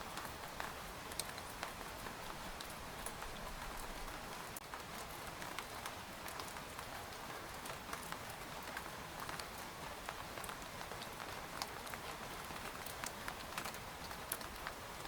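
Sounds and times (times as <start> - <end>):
rain on tent fabric: 0.0 - 15.0.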